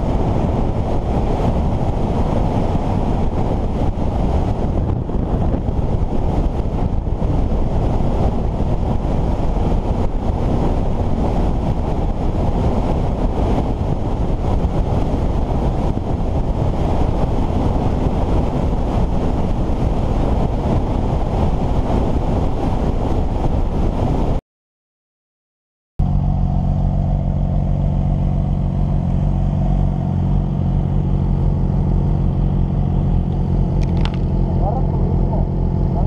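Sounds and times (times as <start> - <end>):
motorcycle engine running: 0.0 - 23.9, 26.0 - 36.0
wind rush over microphone: 0.0 - 24.4, 26.0 - 36.0.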